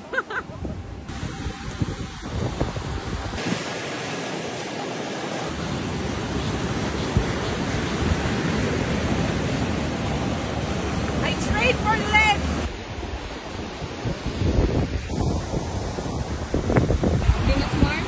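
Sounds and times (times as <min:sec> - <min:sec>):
wind buffeting microphone: 0:00.4 - 0:03.6, 0:05.9 - 0:18.0
surf breaking on shore: 0:01.1 - 0:18.0.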